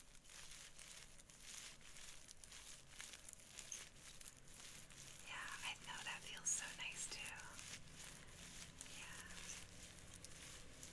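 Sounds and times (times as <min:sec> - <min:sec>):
crinkling and rustling: 0:00.0 - 0:10.9.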